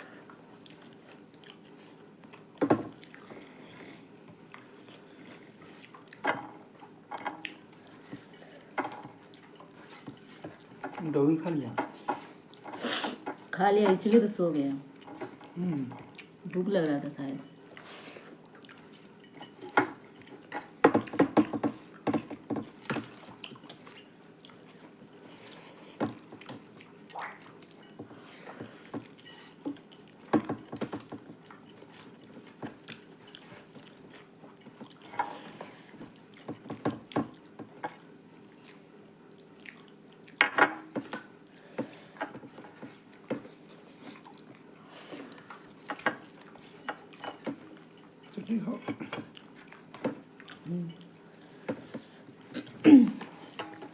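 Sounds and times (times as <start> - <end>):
chewing and mouth noises: 0.2 - 11.0, 15.3 - 16.5, 17.6 - 20.8, 21.9 - 40.4, 41.2 - 53.7.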